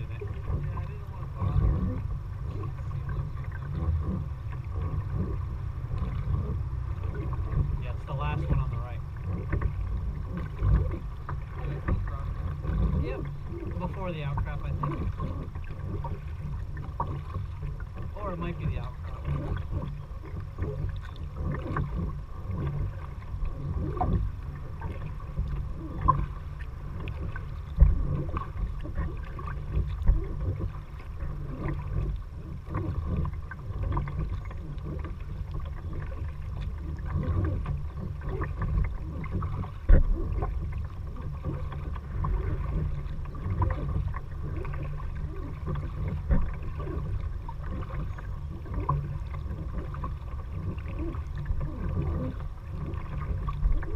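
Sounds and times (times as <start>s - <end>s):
low rumble: 0.0s - 53.9s
paddle splashing water: 0.0s - 53.9s.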